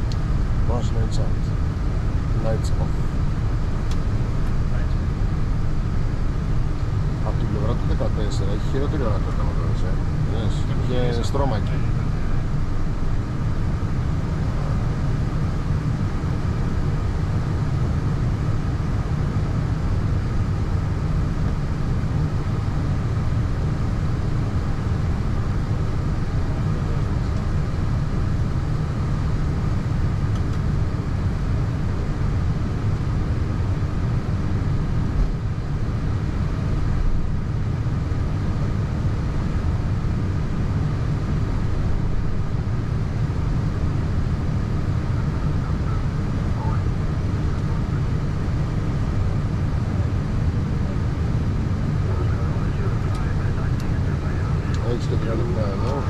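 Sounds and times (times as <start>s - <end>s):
aircraft low rumble: 0.0s - 56.0s
faint steady hum: 0.0s - 56.0s.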